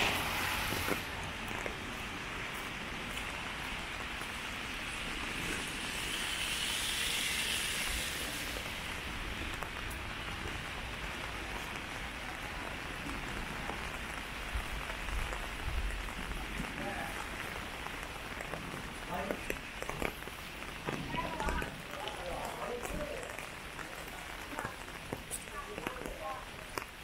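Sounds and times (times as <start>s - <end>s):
rain hissing on street: 0.0s - 27.0s.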